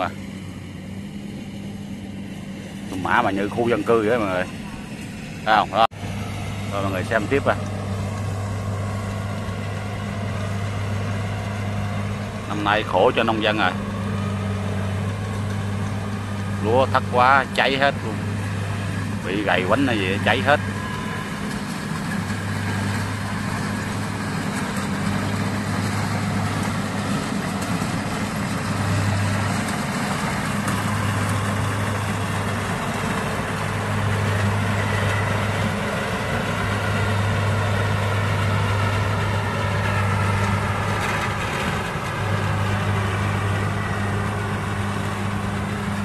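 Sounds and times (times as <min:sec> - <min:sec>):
diesel engine low hum: 0:00.0 - 0:46.0.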